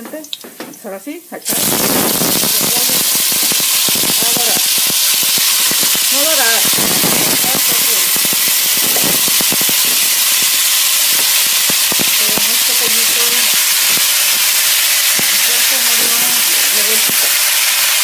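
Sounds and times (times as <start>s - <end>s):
chicken frying in hot oil: 1.5s - 18.0s
oil crackling and popping: 1.5s - 18.0s.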